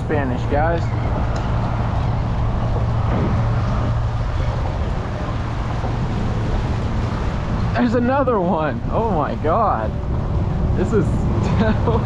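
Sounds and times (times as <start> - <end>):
traffic hum: 0.0 - 12.0
wind noise on microphone: 0.0 - 12.0.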